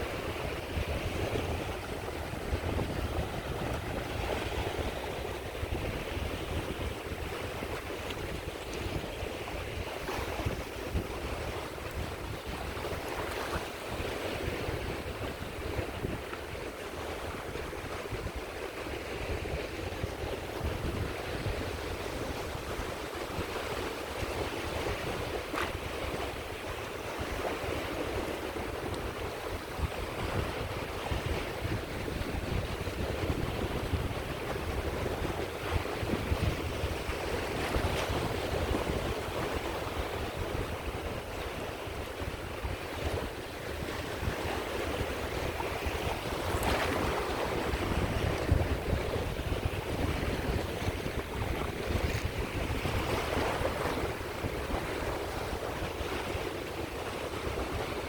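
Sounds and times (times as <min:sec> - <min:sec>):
waves breaking on shore: 0:00.0 - 0:58.0
wind rumble on microphone: 0:00.0 - 0:58.0.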